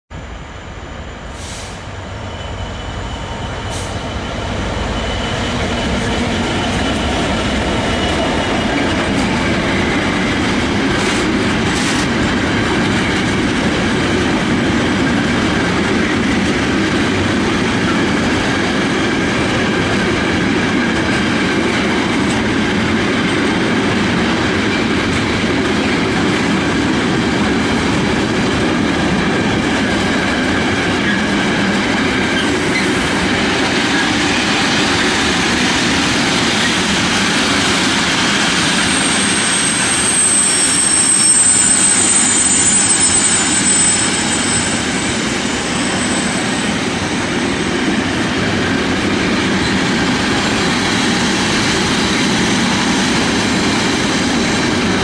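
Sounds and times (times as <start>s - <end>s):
diesel locomotive engine rumble: 0.1s - 55.0s
train wheels clattering on rails: 3.1s - 55.0s.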